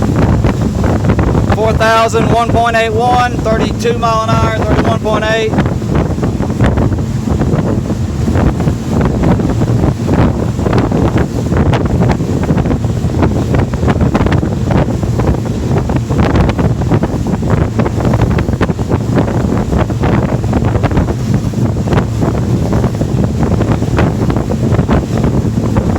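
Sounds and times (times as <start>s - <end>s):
outboard engines droning: 0.0s - 25.9s
wind buffeting microphone: 0.0s - 25.9s.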